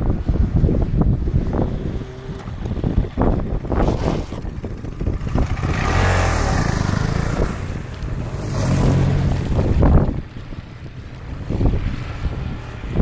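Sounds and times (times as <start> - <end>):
motorcycle passing by: 0.6 - 13.0.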